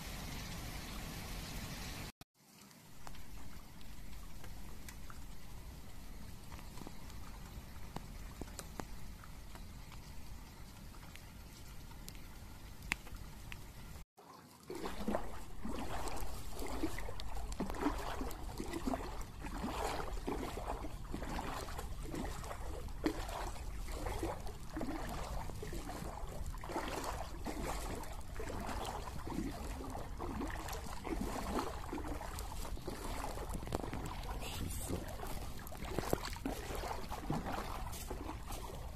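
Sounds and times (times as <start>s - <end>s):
floodwater sloshing and splashing: 0.0s - 38.9s.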